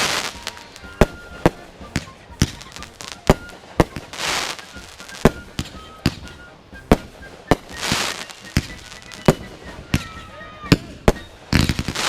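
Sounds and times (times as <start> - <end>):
fireworks bangs: 0.0 - 12.0
fireworks hissing crackle: 0.0 - 12.0.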